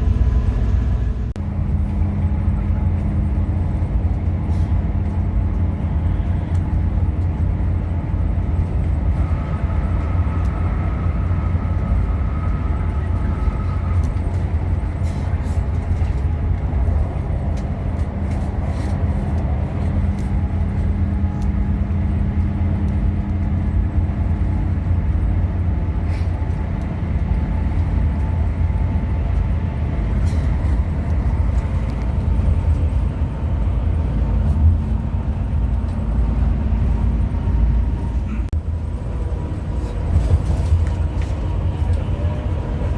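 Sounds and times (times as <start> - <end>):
coach engine and road rumble: 0.0 - 42.9.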